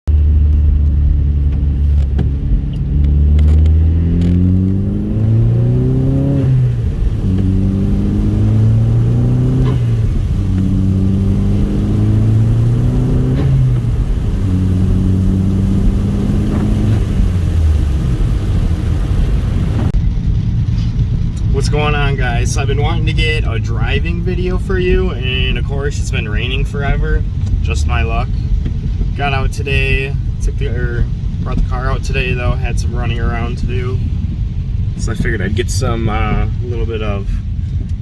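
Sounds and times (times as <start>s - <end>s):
car engine accelerating through gears: 0.1s - 38.0s.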